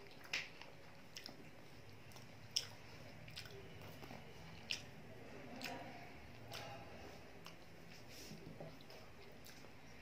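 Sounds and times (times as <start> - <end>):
person chewing and smacking: 0.0 - 10.0.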